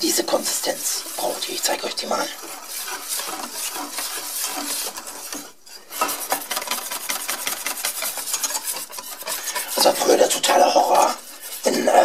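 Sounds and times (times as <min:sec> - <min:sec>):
whisk beating batter in metal bowl: 0:00.0 - 0:12.0.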